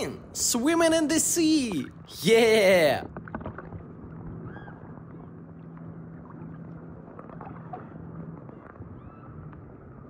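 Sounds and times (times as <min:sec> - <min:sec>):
water sloshing and bubbling: 0:00.0 - 0:10.0.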